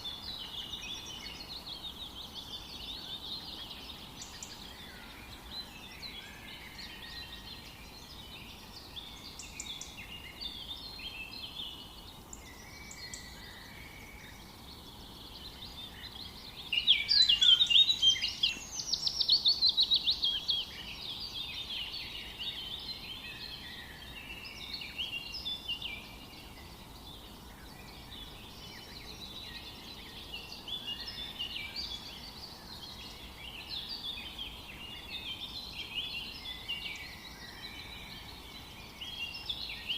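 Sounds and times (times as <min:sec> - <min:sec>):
bird song of fast repeated notes: 0:00.0 - 0:39.9
songbirds chirping: 0:00.0 - 0:39.9.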